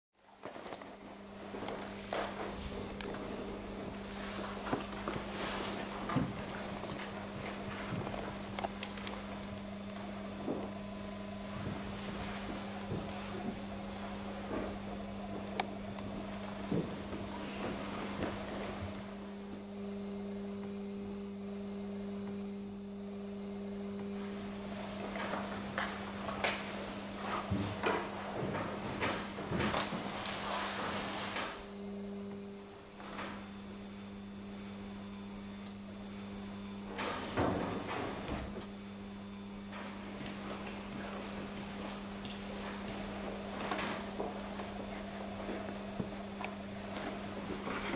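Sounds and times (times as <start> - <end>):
low electrical hum: 0.2 - 47.9
high faint whine: 0.3 - 47.9.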